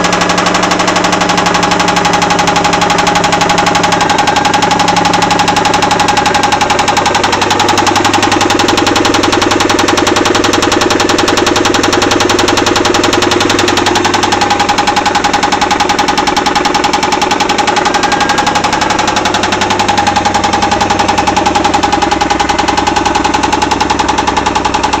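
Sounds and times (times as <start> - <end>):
car engine with rod knock: 0.0 - 25.0.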